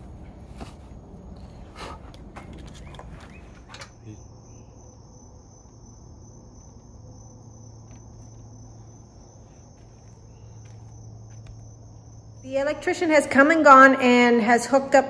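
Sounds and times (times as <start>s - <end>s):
insects trilling: 0.0s - 15.0s
low hum: 0.0s - 15.0s.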